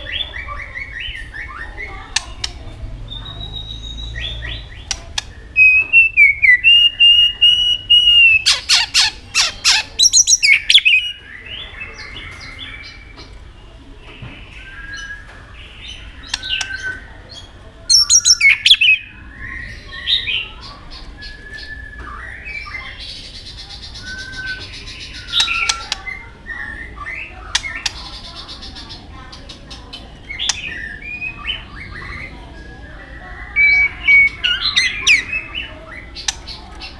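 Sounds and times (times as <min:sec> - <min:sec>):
songbird whistling and rattling: 0:00.1 - 0:11.3, 0:14.1 - 0:36.9.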